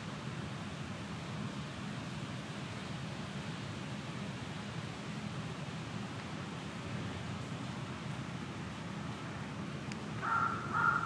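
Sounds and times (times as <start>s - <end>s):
rain: 0.0s - 11.0s
wind: 0.0s - 11.0s.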